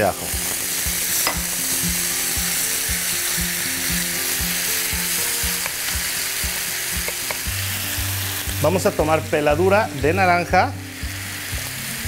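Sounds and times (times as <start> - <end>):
garlic sizzling in a frying pan: 0.0 - 12.0.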